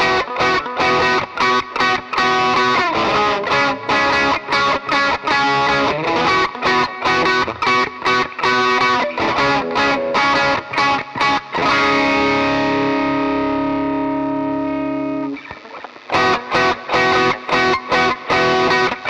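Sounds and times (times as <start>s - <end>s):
distorted electric guitar riff: 0.0s - 19.0s.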